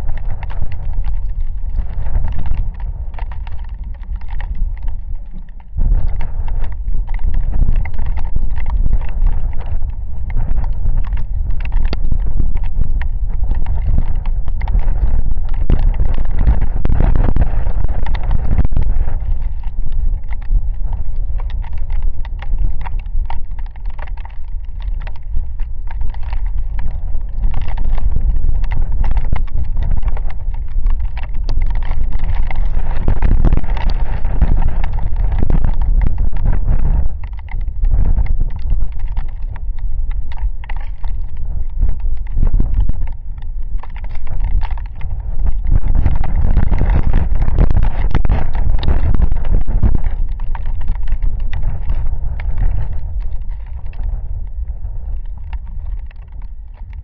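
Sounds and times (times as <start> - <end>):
raindrops pattering: 0.0 - 57.0
wind buffeting microphone: 0.0 - 57.0.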